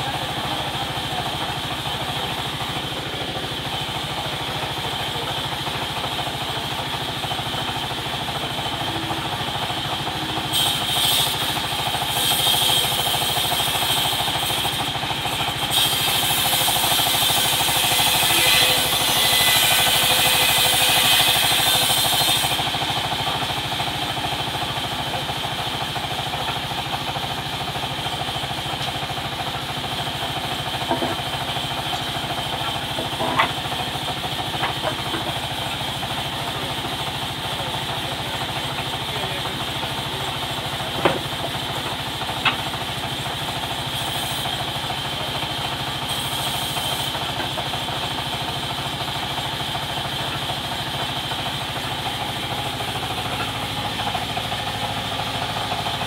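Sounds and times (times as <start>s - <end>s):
band saw whining: 0.0s - 56.0s.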